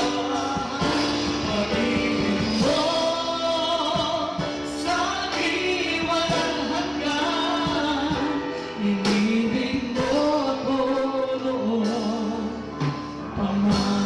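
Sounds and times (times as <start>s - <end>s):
band accompaniment: 0.0s - 14.0s
person singing long sliding notes: 0.0s - 14.0s.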